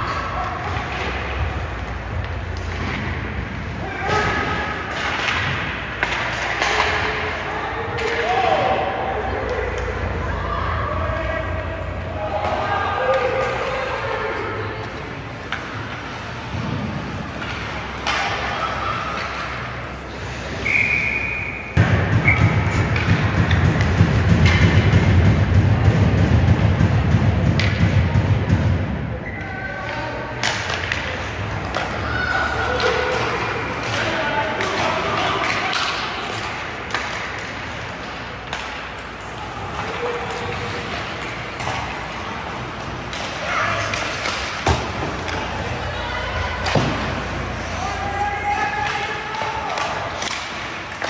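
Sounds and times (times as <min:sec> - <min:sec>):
puck and sticks clacking: 0:00.0 - 0:10.1, 0:14.8 - 0:20.9, 0:21.8 - 0:28.6, 0:29.8 - 0:51.0
arena noise: 0:00.0 - 0:51.0.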